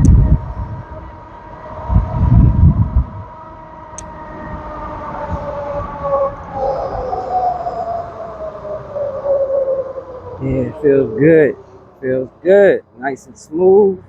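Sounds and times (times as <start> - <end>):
electric bike motor whining: 0.0 - 12.0
wind buffeting microphone: 0.0 - 14.0.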